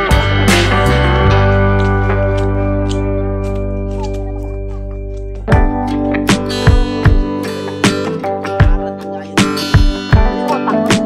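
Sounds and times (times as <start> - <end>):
light percussion ticks: 0.1 - 11.0.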